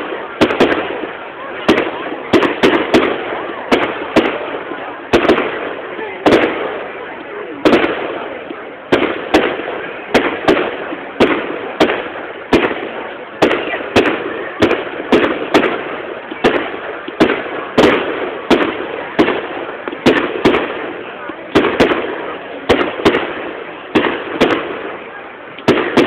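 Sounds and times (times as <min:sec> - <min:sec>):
fireworks bursting with loud bangs: 0:00.0 - 0:26.0.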